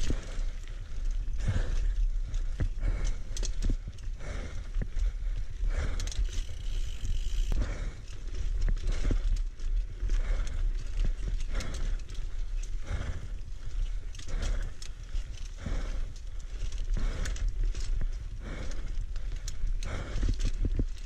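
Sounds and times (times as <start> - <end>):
bike riding on dirt trail: 0.0 - 21.0
breathy rhythmic sound: 0.0 - 21.0
low rumble: 0.0 - 21.0.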